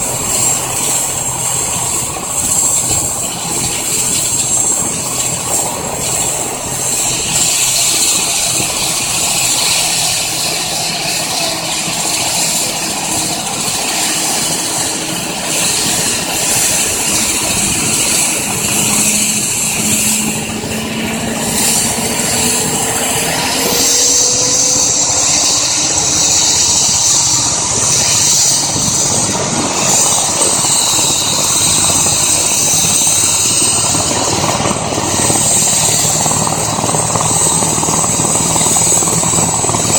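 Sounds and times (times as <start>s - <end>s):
helicopter turbine whine: 0.0s - 39.9s
rushing hiss: 0.0s - 39.9s.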